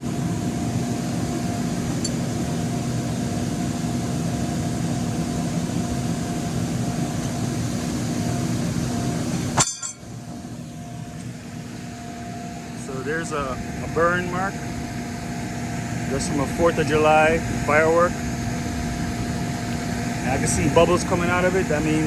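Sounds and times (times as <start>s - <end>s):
inflation blower humming: 0.0s - 22.0s.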